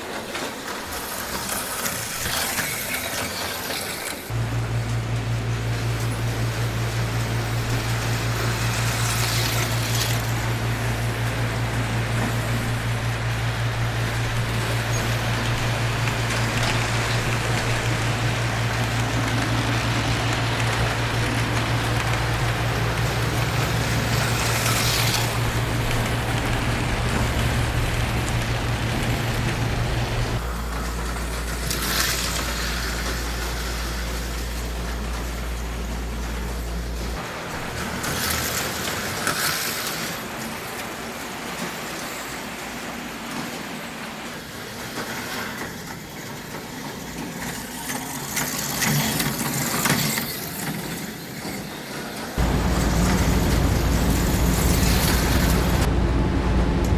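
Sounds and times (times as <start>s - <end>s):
slot cars whirring: 0.0s - 56.9s.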